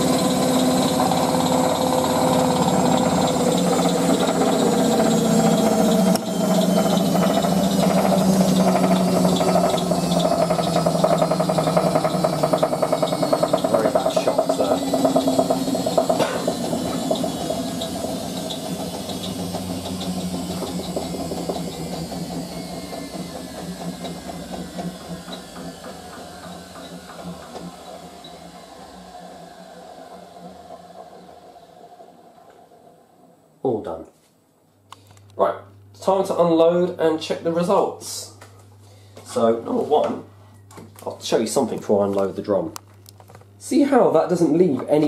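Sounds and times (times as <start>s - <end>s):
washing machine motor and drum whine: 0.0s - 34.0s, 35.2s - 45.0s.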